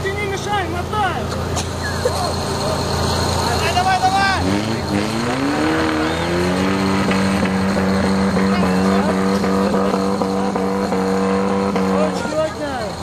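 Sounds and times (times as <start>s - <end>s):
vehicle engine revving: 0.7s - 13.0s.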